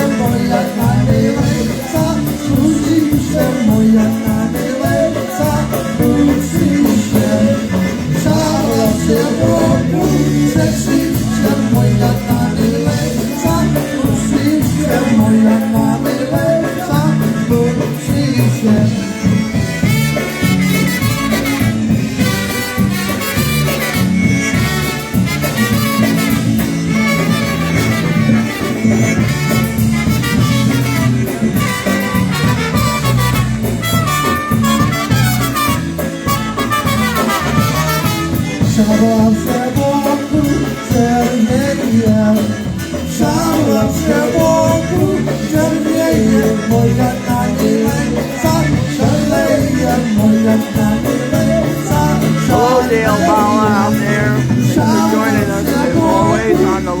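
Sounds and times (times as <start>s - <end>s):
polka band playing: 0.0s - 57.0s.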